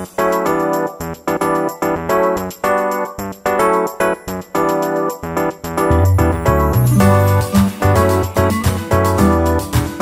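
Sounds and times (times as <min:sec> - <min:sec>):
electric piano chords: 0:00.3 - 0:08.6.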